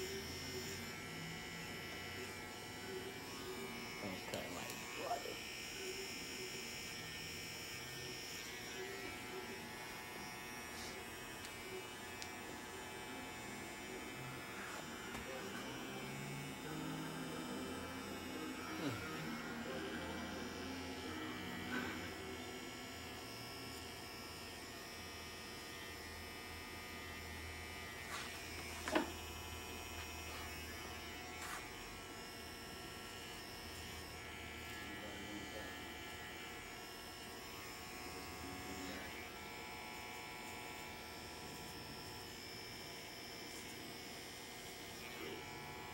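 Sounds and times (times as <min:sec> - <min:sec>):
electric hair trimmer buzzing: 0:00.0 - 0:45.9.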